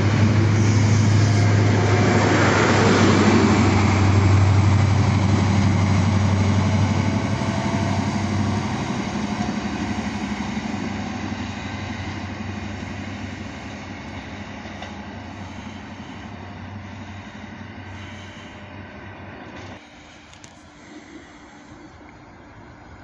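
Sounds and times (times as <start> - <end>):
diesel train engine droning: 0.0 - 23.0.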